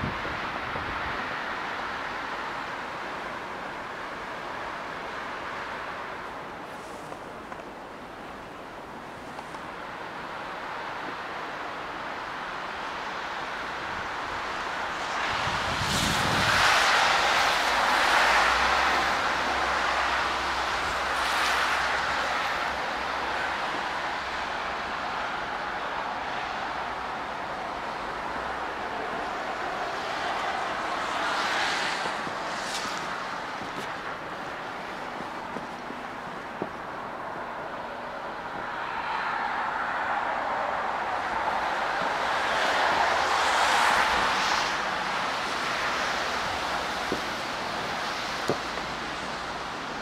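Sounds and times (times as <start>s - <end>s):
outdoor rushing noise: 0.0s - 50.0s.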